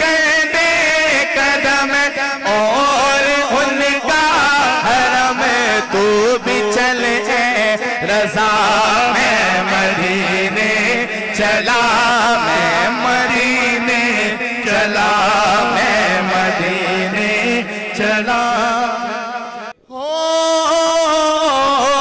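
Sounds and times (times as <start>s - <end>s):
men singing devotional song: 0.0s - 22.0s.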